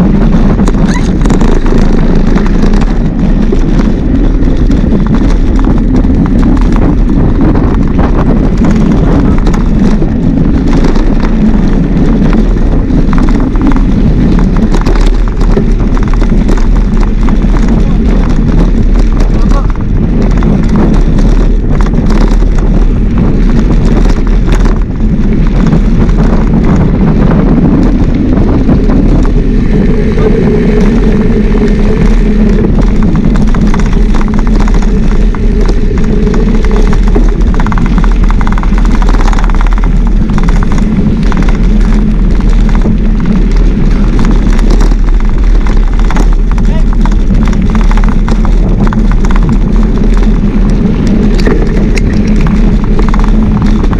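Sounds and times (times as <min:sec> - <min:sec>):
bike rattles and clicks: 0:00.0 - 0:53.9
wind buffeting microphone: 0:00.0 - 0:53.9.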